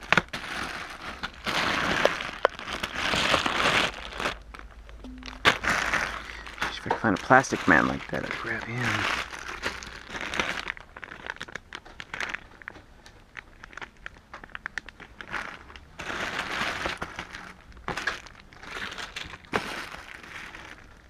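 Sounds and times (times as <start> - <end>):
plastic bags crinkling and rustling: 0.0 - 21.0.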